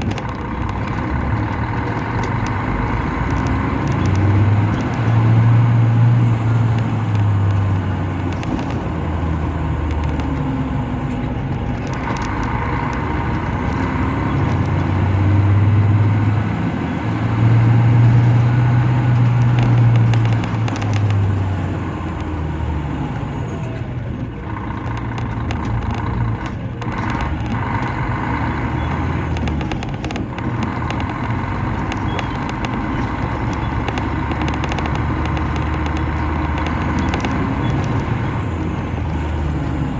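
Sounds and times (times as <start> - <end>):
diesel coach engine running: 0.0 - 39.9.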